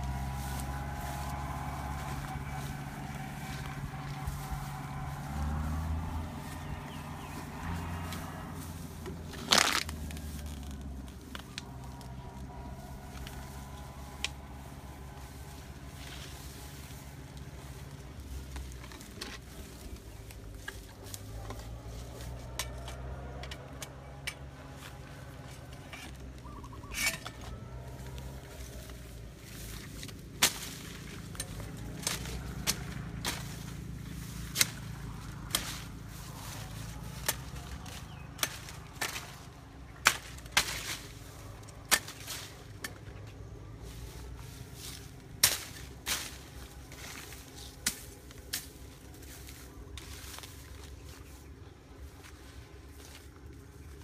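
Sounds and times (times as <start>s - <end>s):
branches cracking and snapping: 0.0s - 54.0s
low steady rumble: 0.0s - 54.0s.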